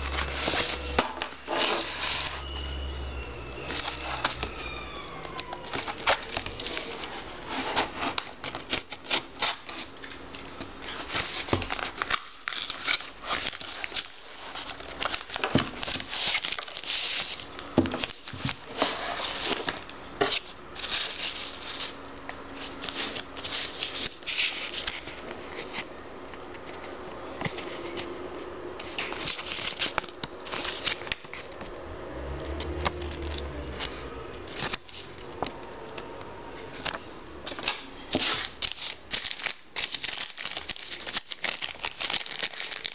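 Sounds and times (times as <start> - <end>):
plastic wrapping crinkling: 0.0 - 28.2, 28.8 - 31.8, 36.7 - 42.9.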